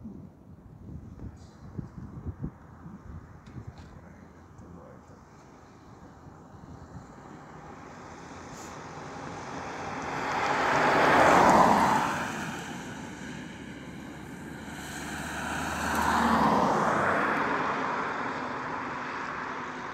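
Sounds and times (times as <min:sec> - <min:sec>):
road vehicles passing: 0:00.0 - 0:19.9.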